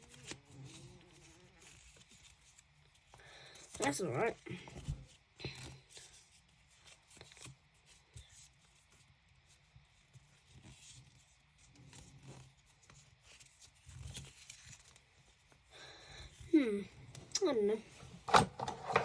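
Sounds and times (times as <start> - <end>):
faint packaging rustles and clicks: 0.0 - 19.0.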